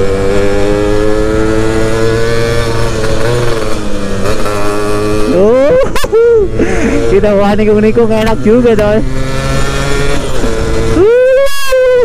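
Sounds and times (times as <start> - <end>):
two-stroke engine at high revs: 0.0 - 12.0.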